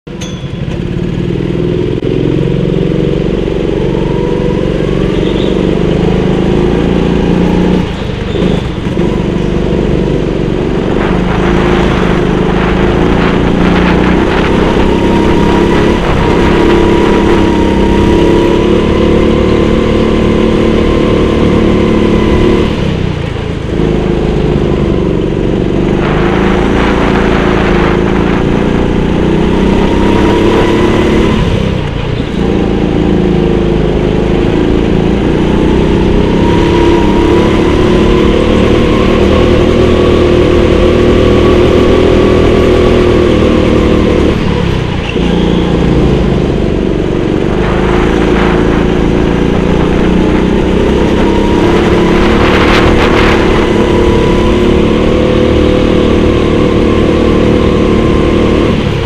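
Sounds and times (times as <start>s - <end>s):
go-kart engine running hard: 0.1s - 59.0s.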